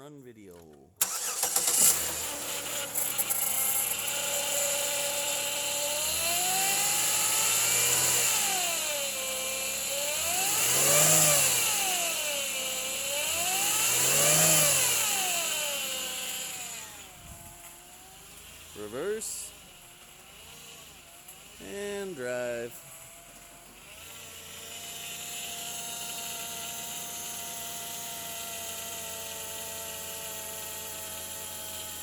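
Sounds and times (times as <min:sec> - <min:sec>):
car engine idling and revving: 0:01.0 - 0:32.0.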